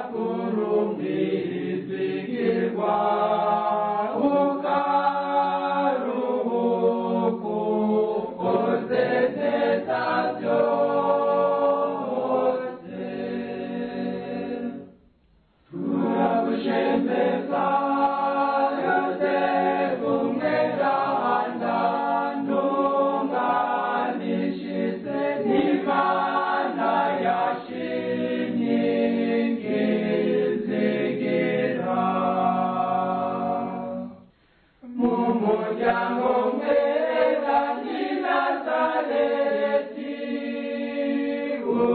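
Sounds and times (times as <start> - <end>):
choir singing a hymn: 0.0 - 14.9, 15.7 - 34.2, 34.8 - 41.9.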